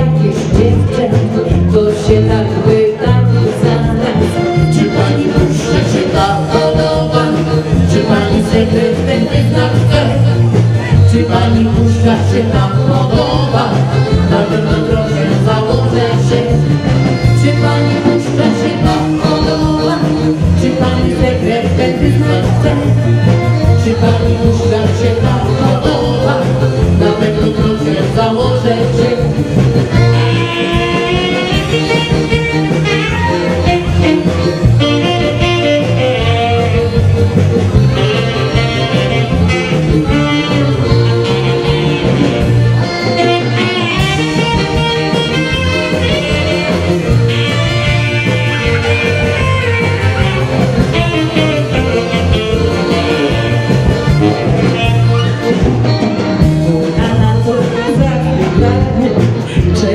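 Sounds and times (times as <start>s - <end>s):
live dance band playing: 0.0s - 59.9s.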